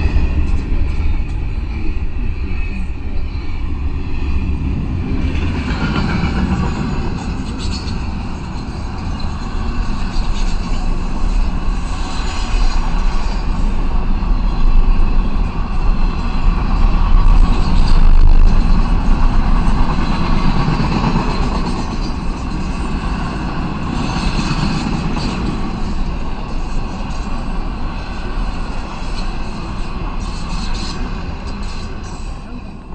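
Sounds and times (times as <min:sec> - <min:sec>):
freight train wheels clattering on rails: 0:00.0 - 0:32.9.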